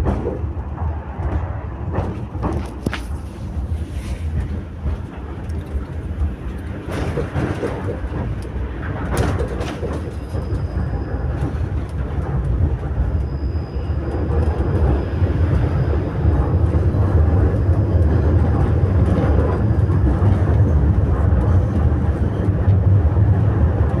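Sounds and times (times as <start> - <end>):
tram rumbling: 0.0 - 24.0.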